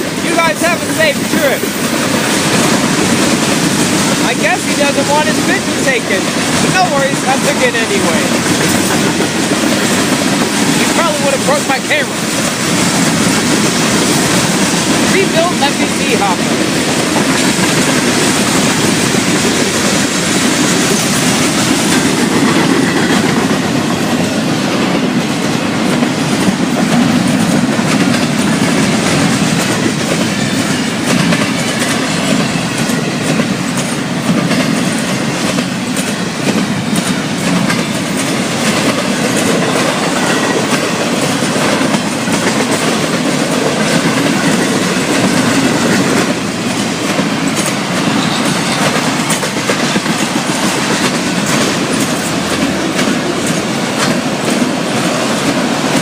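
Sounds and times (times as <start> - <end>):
freight train wheels rumbling: 0.0 - 56.0
wheels clacking over rail joints: 0.0 - 56.0.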